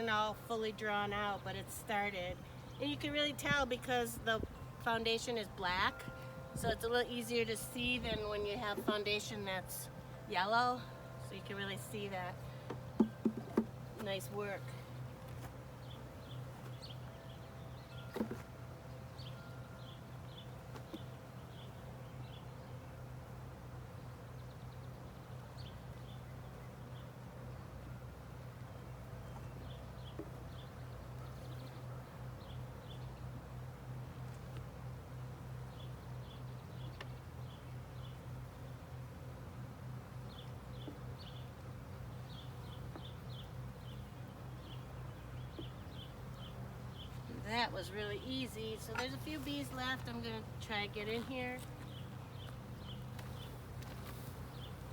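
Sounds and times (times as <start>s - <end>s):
honeybees buzzing: 0.0s - 54.9s.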